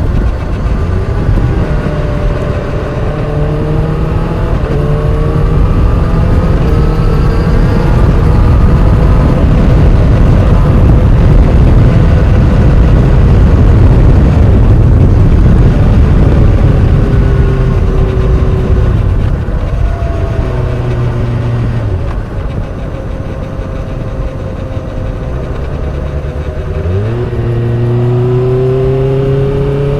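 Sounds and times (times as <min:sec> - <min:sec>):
low engine running noise: 0:00.0 - 0:29.9
motorcycle whine: 0:00.0 - 0:29.9.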